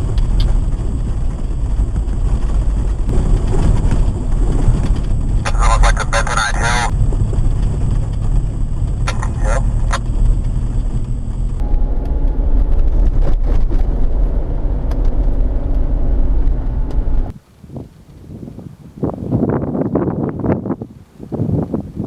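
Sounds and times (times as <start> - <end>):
vehicle engine and tyre rumble: 0.0 - 22.0.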